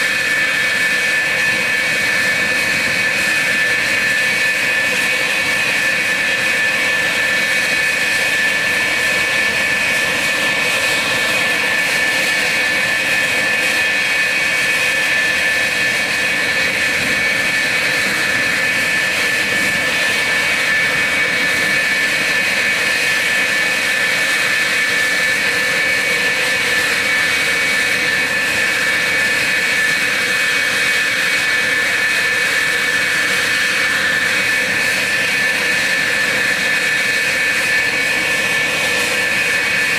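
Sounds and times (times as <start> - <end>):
high-pitched jet whine: 0.0 - 39.9
jet engine roar: 0.0 - 39.9.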